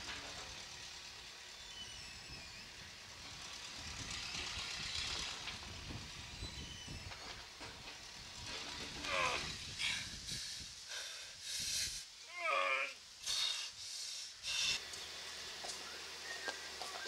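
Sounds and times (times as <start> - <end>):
hissing countryside ambience: 0.0 - 17.0.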